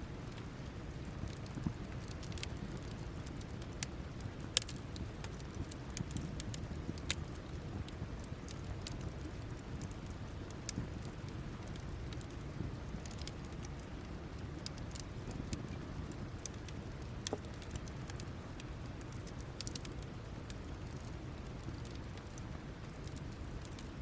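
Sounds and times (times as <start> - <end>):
fire low rumble: 0.0 - 24.0
campfire crackling and popping: 0.1 - 24.0.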